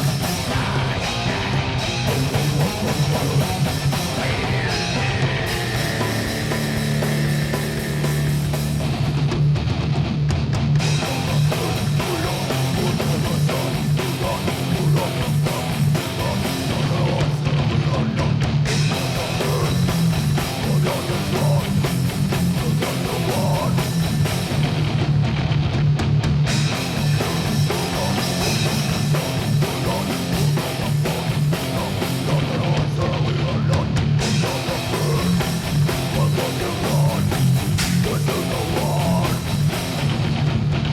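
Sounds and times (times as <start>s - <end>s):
rock music: 0.0s - 40.9s.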